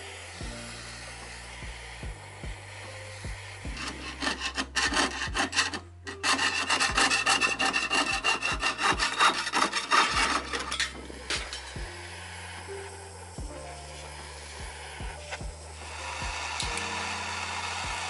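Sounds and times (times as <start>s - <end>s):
saw cutting metal sheet: 0.0s - 18.0s.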